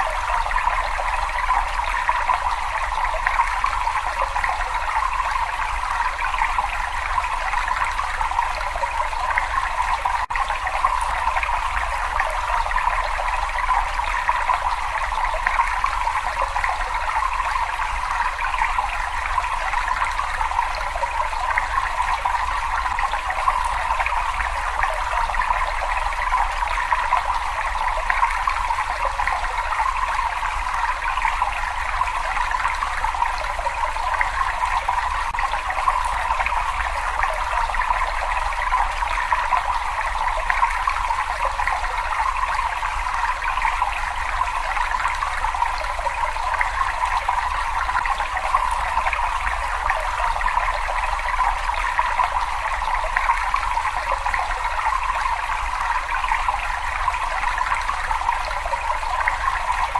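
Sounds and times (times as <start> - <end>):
water running and trickling: 0.0 - 59.9.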